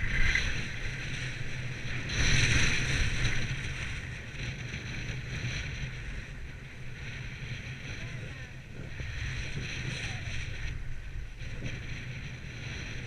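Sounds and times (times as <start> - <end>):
skis scraping over snow: 0.0 - 13.0
wind rumbling on microphone: 0.0 - 13.0.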